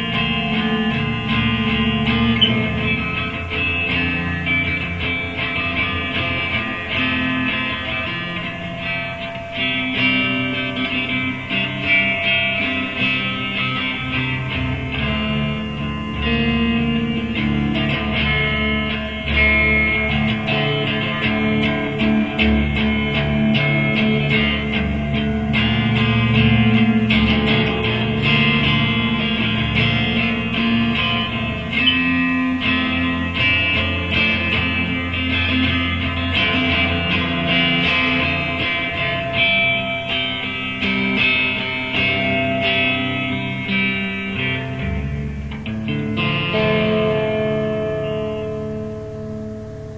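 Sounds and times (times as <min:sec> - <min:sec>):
electric guitar playing: 0:00.0 - 0:49.9.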